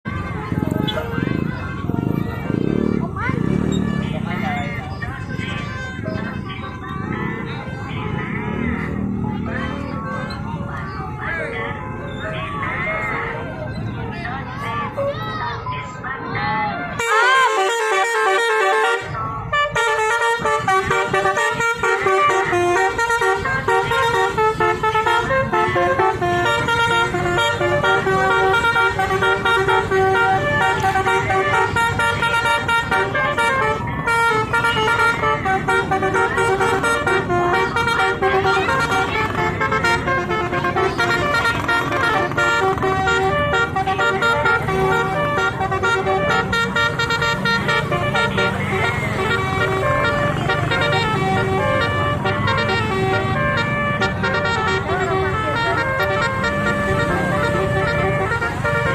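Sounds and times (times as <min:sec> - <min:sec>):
multi-tone bus horn melody: 0:00.0 - 0:15.3, 0:16.7 - 0:58.9.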